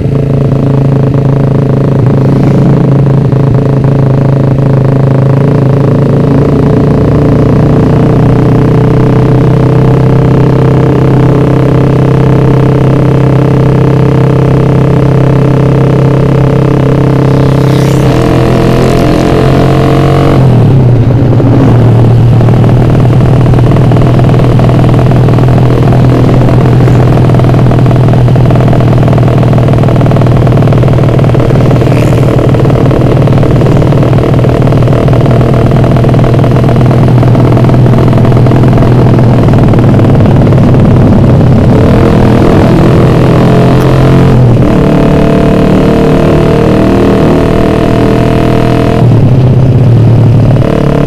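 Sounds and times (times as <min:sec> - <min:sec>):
motorcycle engine running loudly: 0:00.0 - 0:51.0.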